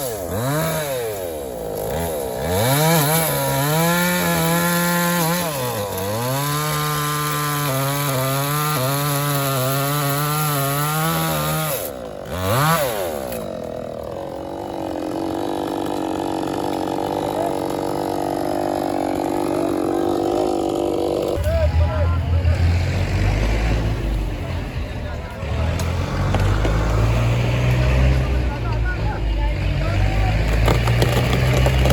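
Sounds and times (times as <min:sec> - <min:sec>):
chainsaw engine revving and idling: 0:00.0 - 0:31.9.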